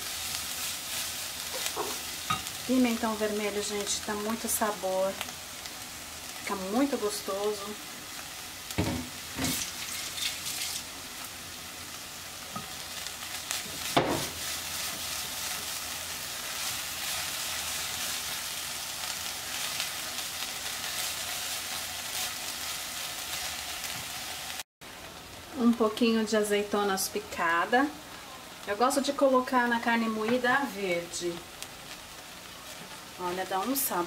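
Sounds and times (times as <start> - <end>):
meat and pepper sizzling in a pot: 0.0 - 34.0.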